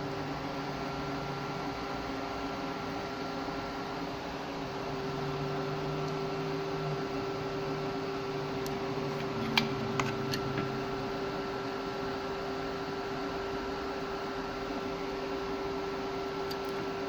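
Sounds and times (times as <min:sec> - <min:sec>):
equipment fan hum: 0:00.0 - 0:17.0.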